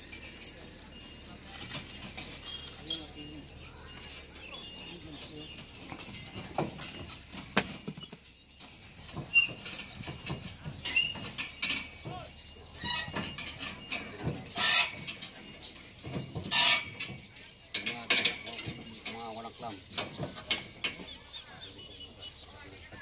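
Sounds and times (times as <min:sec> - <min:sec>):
scaffolding pipes clanking: 0:00.0 - 0:21.6.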